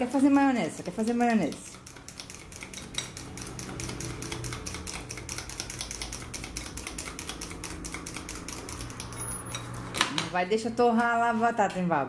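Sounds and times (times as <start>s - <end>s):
utensil clicking against plastic cup: 0.0s - 9.7s.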